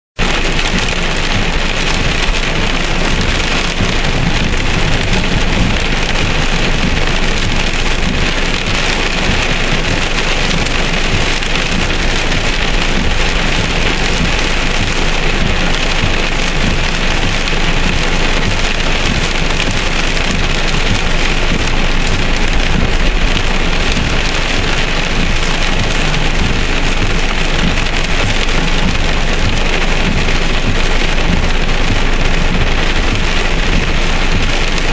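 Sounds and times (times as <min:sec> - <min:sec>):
heavy rain on car: 0:00.2 - 0:34.9.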